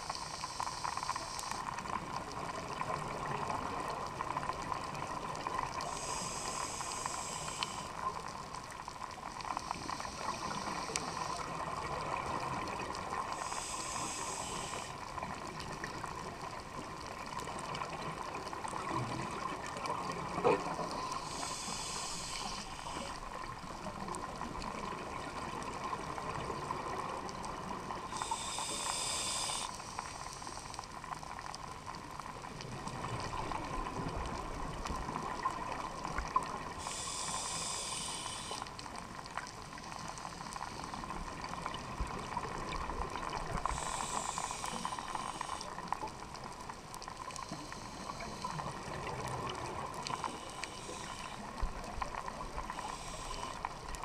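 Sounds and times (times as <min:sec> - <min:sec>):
exhaled bubbles hissing underwater: 0:00.0 - 0:54.0
steady underwater hum: 0:00.0 - 0:54.0.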